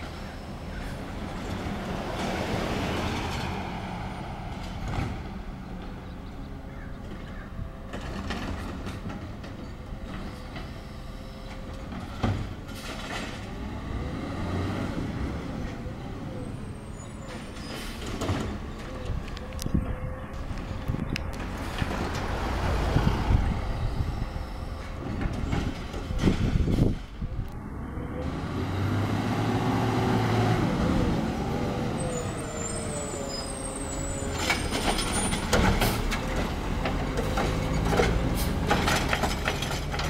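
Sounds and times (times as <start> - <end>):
garbage truck engine rumble: 0.0 - 40.0.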